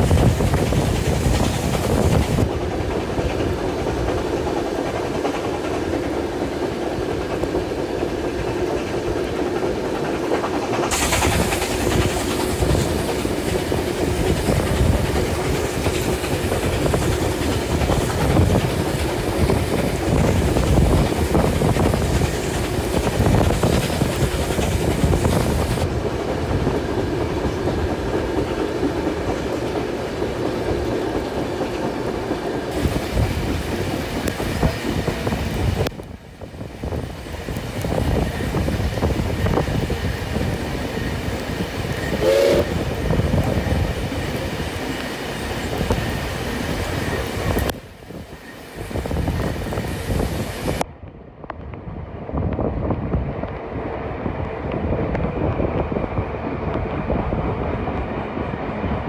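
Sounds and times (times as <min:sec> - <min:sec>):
rushing hiss: 0:00.0 - 0:50.8
train wheels clacking on rails: 0:00.0 - 0:50.9.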